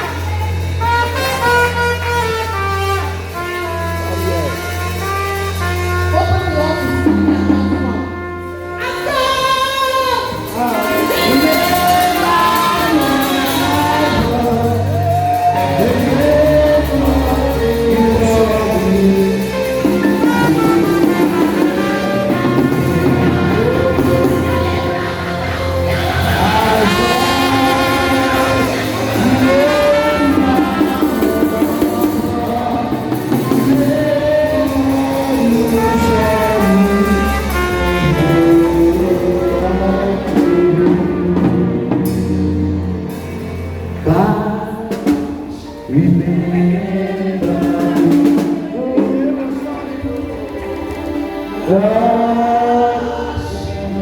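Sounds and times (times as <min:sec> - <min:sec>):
music with singing and drum beat: 0:00.0 - 0:54.0.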